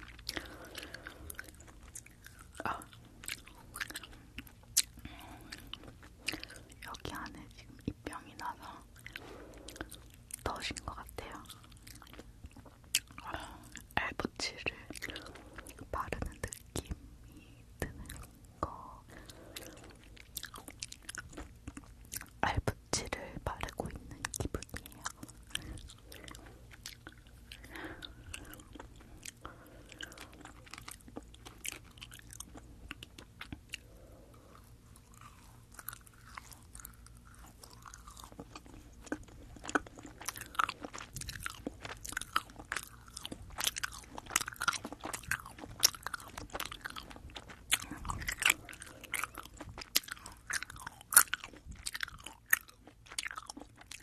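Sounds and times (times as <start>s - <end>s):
gummy candies being chewed: 0.0s - 54.0s.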